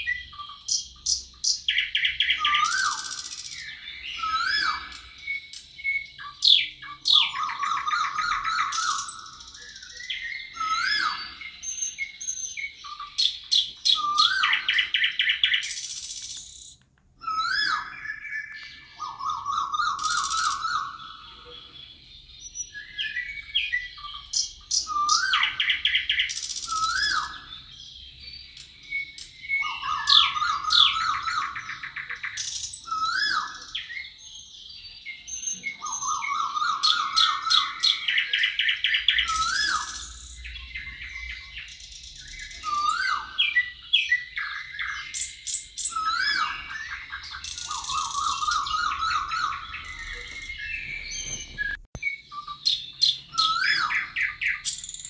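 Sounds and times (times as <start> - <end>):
fast bird trill: 0.0 - 55.0
songbirds singing: 0.0 - 55.0.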